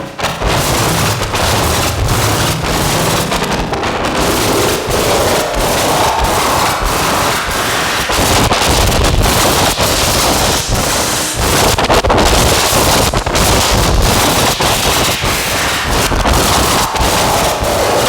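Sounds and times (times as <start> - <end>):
distorted synthesizer noise drone: 0.0 - 18.0.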